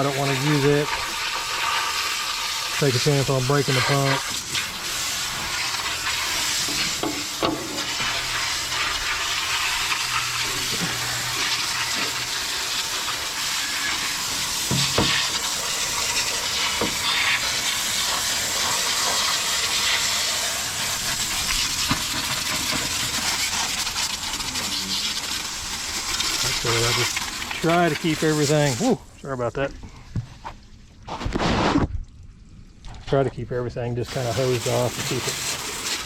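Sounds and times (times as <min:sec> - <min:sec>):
hose water spraying on metal: 0:00.0 - 0:29.6, 0:34.0 - 0:36.0.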